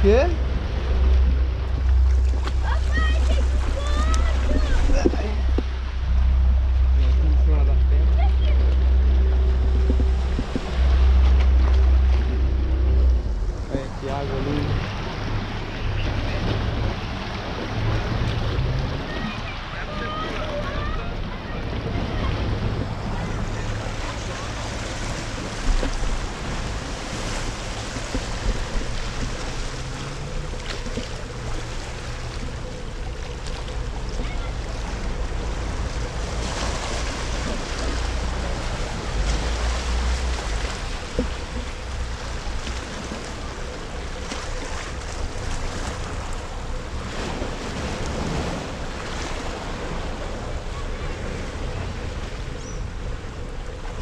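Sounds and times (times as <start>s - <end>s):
waves lapping against boulders: 0.0s - 54.0s
wind rumbling on microphone: 0.0s - 54.0s.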